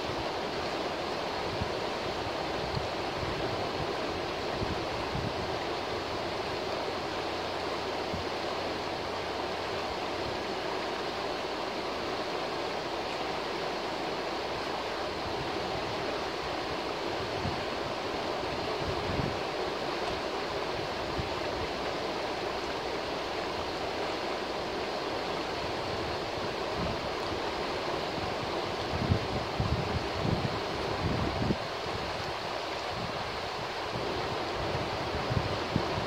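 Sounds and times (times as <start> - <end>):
river rushing over rocks: 0.0 - 36.0.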